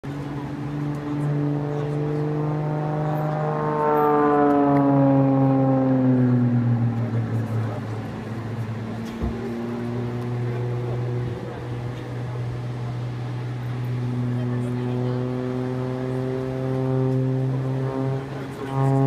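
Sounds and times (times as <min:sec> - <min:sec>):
propeller plane droning overhead: 0:00.0 - 0:19.0.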